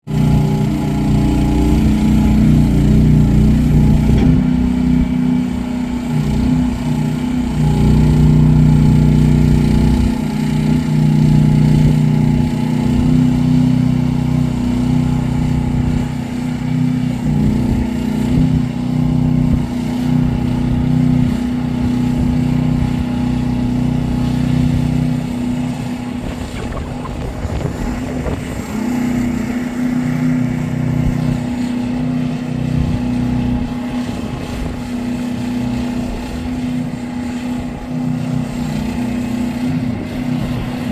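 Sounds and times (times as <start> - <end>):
loader engine running: 0.1 - 40.9.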